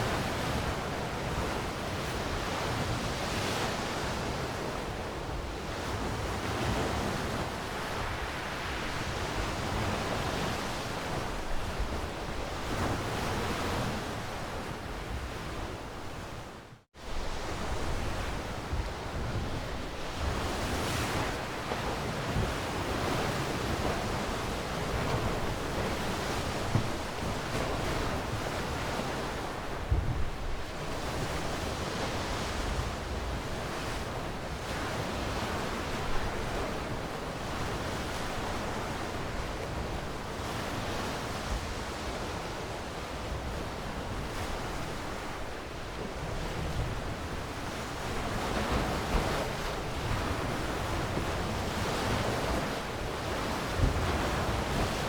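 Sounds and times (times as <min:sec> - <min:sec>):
sea waves washing on shore: 0:00.0 - 0:16.2, 0:17.0 - 0:55.0.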